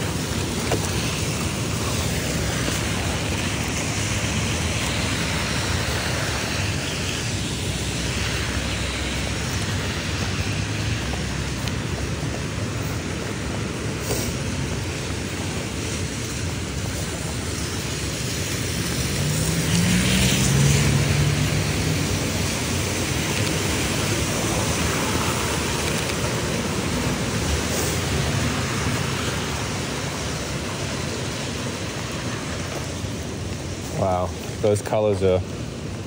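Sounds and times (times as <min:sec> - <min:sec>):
rain on wet street: 0:00.0 - 0:36.0
vehicle passing: 0:01.3 - 0:33.0.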